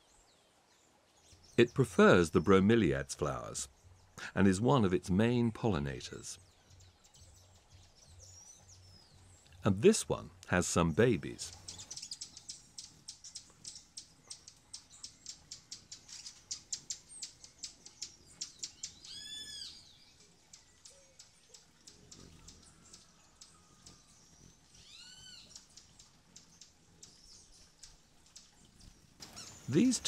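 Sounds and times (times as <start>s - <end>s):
birds chipping: 0.0s - 30.0s.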